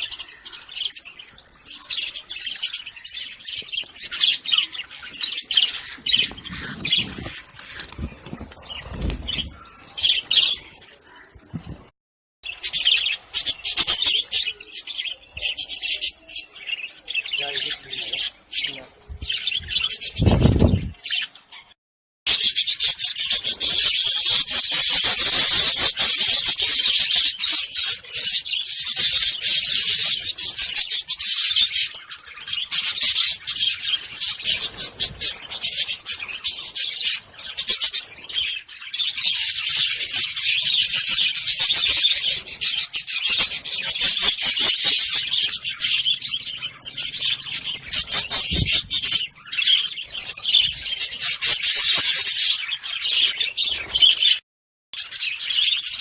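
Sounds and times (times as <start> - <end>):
lovebirds chattering: 0.0 - 11.9, 12.5 - 21.7, 22.4 - 54.4.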